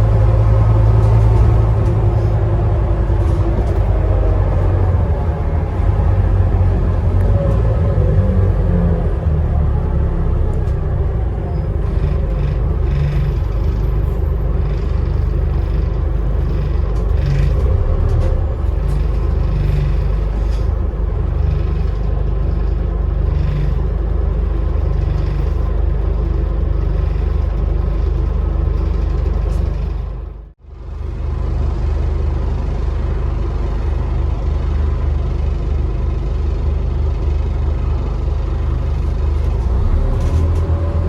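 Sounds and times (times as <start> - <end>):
bus engine drone: 0.0 - 41.0
road and body rumble: 0.0 - 41.0.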